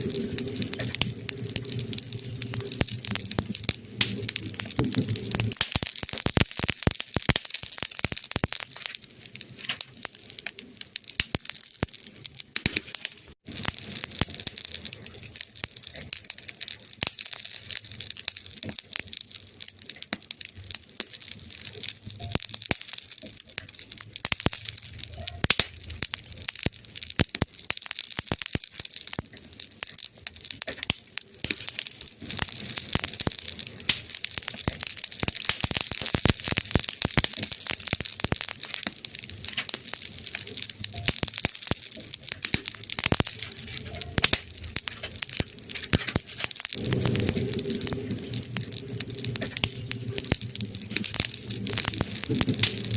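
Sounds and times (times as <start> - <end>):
campfire crackling and popping: 0.0 - 52.9.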